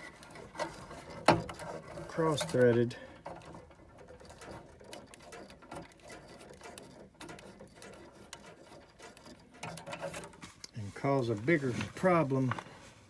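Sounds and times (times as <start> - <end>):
small clicks and scrapes on fitting: 0.0 - 13.0.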